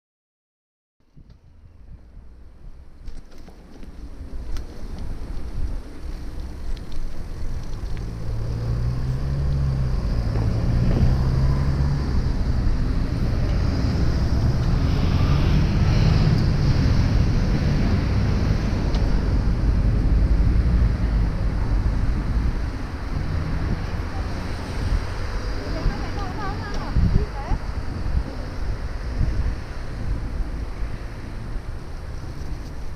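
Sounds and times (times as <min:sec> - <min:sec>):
street traffic: 0:01.0 - 0:32.9
wind rumbling on microphone: 0:01.0 - 0:32.9.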